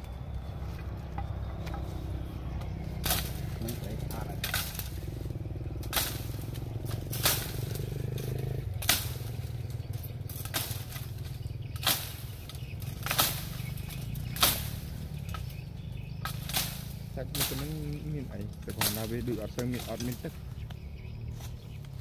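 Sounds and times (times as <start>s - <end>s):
blade chopping bamboo: 3.0s - 20.7s.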